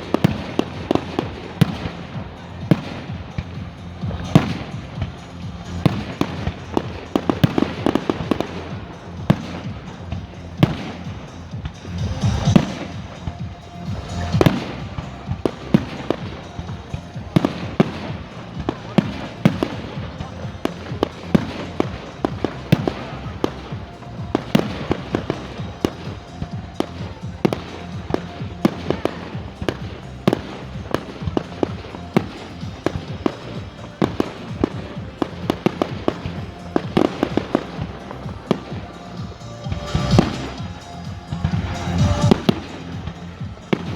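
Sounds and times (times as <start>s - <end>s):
fireworks bangs and cracks: 0.0s - 43.9s
music playing: 0.0s - 43.9s.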